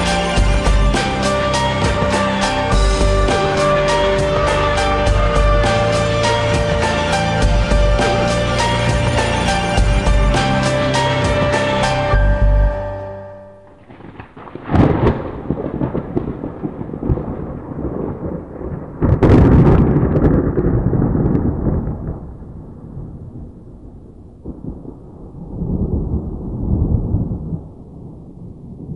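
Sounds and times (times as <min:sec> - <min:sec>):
thunder crack: 0:00.0 - 0:12.6, 0:13.7 - 0:28.9
low thunder rumble: 0:00.0 - 0:12.8, 0:13.8 - 0:28.9.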